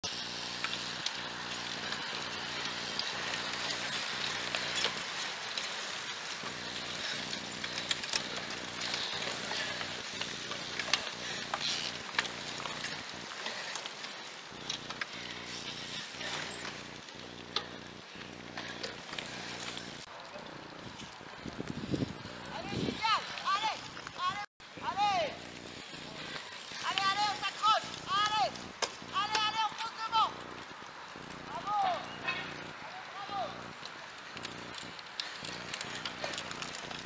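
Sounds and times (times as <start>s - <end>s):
bike tyres on grass: 0.0s - 37.0s
outdoor hiss: 0.0s - 37.0s.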